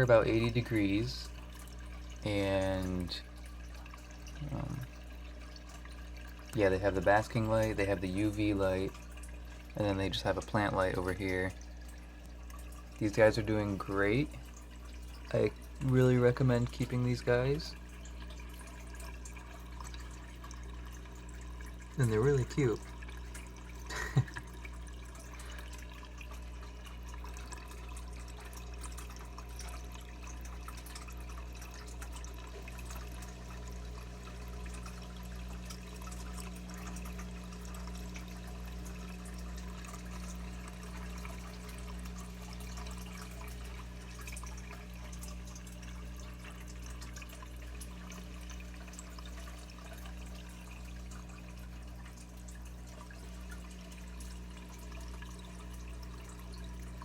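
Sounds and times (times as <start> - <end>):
low steady hum: 0.0 - 57.0
water trickling in tank: 0.0 - 57.0.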